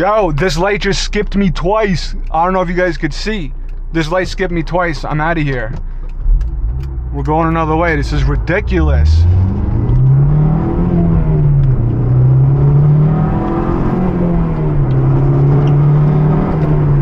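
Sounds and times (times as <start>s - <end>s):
car engine revving through shifts: 0.0s - 17.0s.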